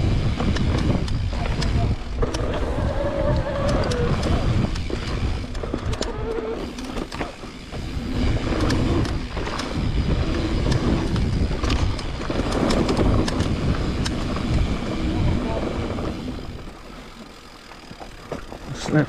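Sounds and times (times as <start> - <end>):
wind buffeting microphone: 0.0 - 7.0, 7.6 - 17.9
bike rattling and knocking: 0.0 - 19.0
tyres rumbling over dirt: 0.0 - 19.0.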